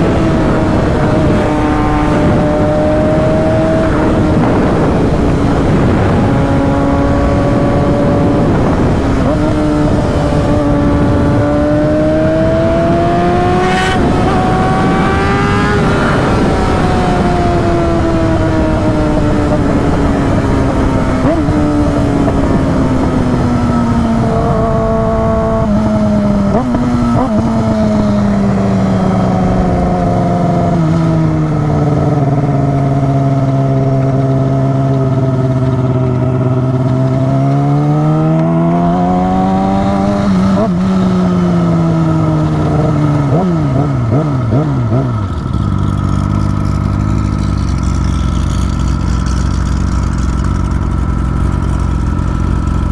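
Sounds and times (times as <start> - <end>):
vehicle engine running loud: 0.0 - 52.9.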